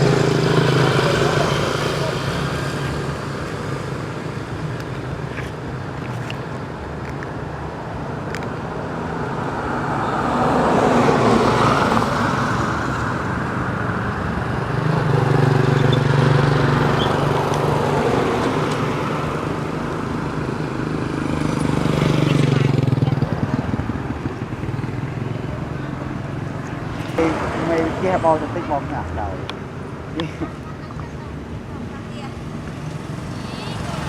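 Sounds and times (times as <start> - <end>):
vehicle passing: 0.0 - 4.5, 9.1 - 34.0
vehicle engines running: 0.0 - 34.0.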